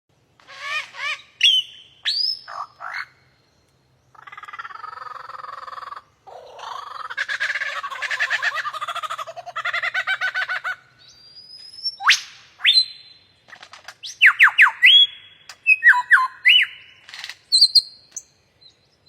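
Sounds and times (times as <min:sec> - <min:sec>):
bird calls and trills: 0:00.1 - 0:19.0.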